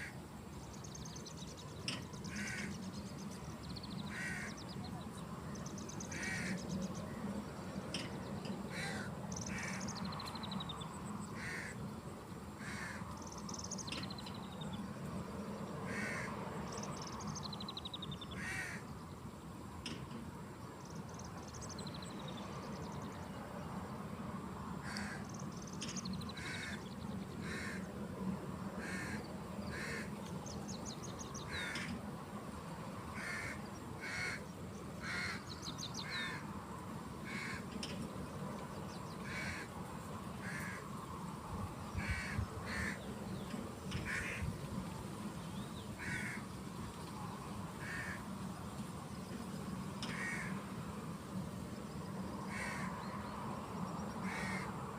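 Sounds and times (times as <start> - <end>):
low background noise: 0.0 - 54.9.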